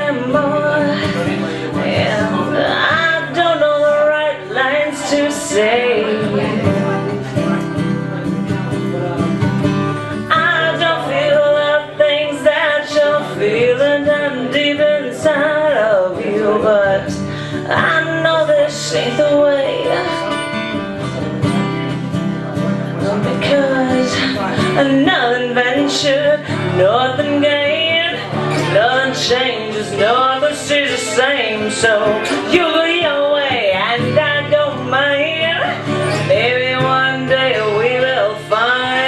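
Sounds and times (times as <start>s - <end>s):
person singing: 0.0s - 8.2s, 10.0s - 21.8s, 22.8s - 39.0s
guitar playing: 0.0s - 39.0s.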